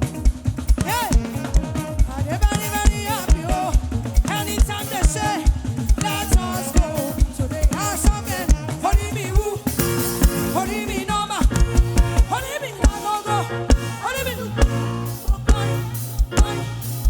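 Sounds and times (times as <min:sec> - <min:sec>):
kick drum beat: 0:00.0 - 0:10.6, 0:11.4 - 0:13.1, 0:13.7 - 0:16.8
band playing gospel music: 0:00.0 - 0:17.0
person singing: 0:00.1 - 0:17.0.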